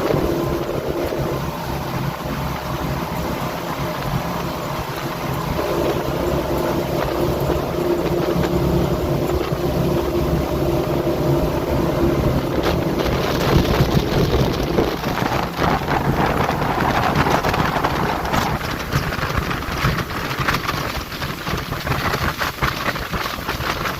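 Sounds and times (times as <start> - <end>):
boat engine running: 0.0 - 23.9
water splashing against hull: 0.0 - 23.9
wind buffeting microphone: 0.0 - 23.9.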